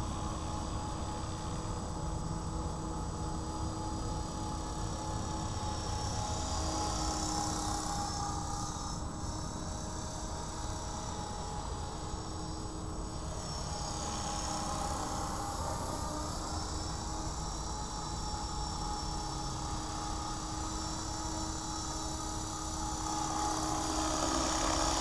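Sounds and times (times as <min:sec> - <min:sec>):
model helicopter motor whine: 0:00.0 - 0:25.0.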